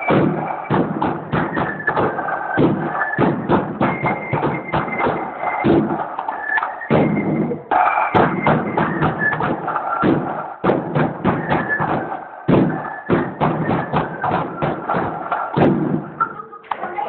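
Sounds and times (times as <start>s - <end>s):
bass drum beat: 0.0s - 6.2s, 6.9s - 16.2s
marching side drums: 0.0s - 16.4s.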